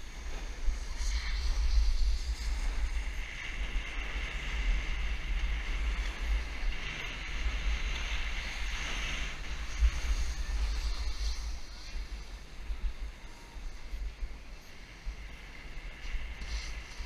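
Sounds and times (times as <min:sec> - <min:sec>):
snowboard sliding on snow: 0:00.0 - 0:14.0, 0:14.6 - 0:17.0
wind buffeting microphone: 0:00.0 - 0:17.0.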